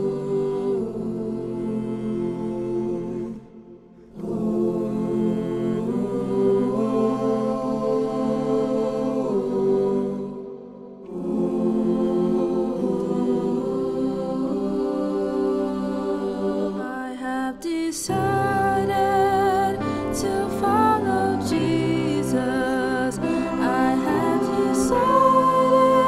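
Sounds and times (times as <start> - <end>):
choir singing a cappella: 0.0 - 26.0.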